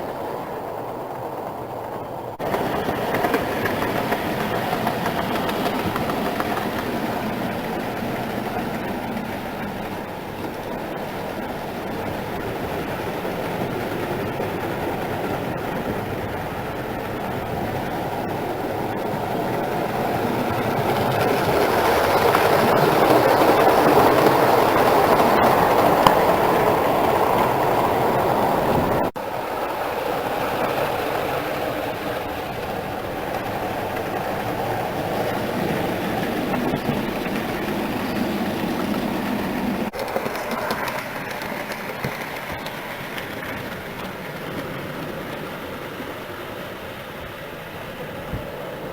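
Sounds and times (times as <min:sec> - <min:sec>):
model train wheels clattering on track: 0:01.4 - 0:48.9.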